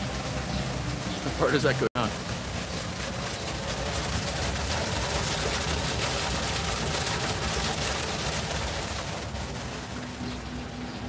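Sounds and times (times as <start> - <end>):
rushing noise with low rumble: 0.0 - 11.0.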